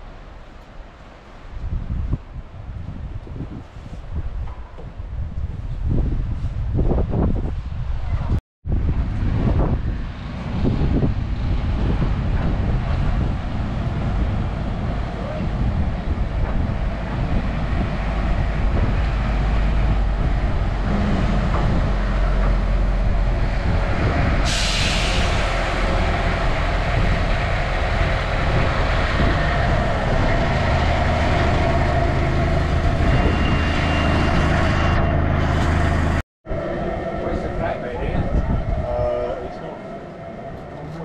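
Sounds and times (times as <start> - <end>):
electric train rumbling: 0.0 - 41.0
wind buffeting microphone: 1.4 - 41.0.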